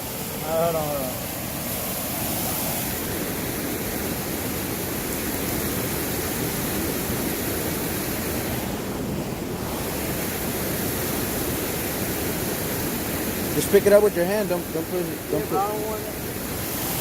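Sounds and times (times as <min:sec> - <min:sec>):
strong water current rushing: 0:00.0 - 0:17.0.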